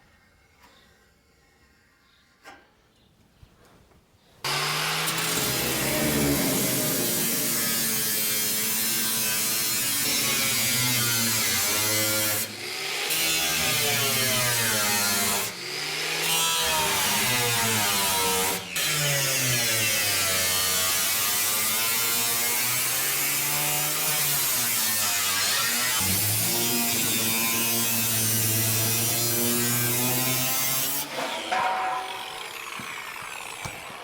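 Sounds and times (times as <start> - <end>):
power tool cutting steel: 4.4 - 34.0.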